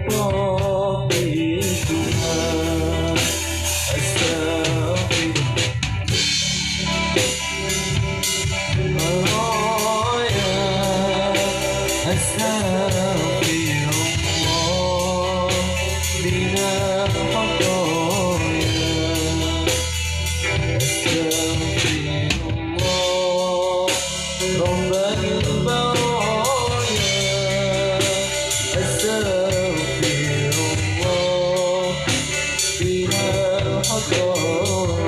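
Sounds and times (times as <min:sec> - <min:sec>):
band playing devotional song: 0:00.0 - 0:35.0
drum kit beating: 0:00.0 - 0:35.0.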